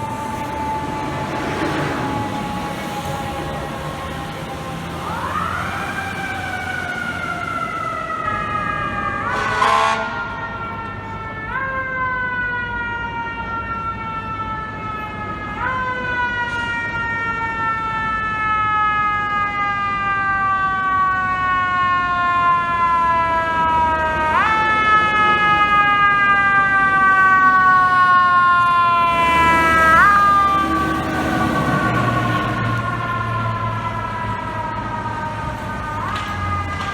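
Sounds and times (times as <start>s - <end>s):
fire truck siren: 0.0s - 36.9s.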